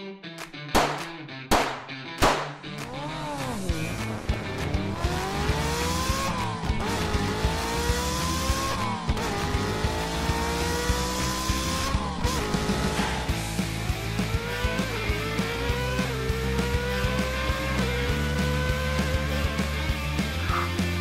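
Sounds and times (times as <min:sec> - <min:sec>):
background music with beat: 0:00.2 - 0:21.0
race car engine revving: 0:02.8 - 0:21.0.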